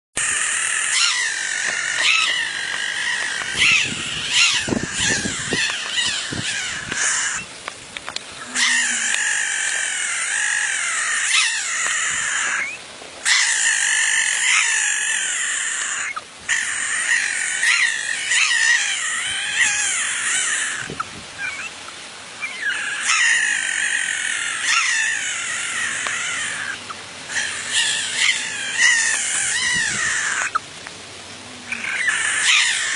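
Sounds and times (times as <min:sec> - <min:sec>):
frog calling: 0:00.2 - 0:07.6, 0:08.3 - 0:30.7, 0:31.4 - 0:32.9.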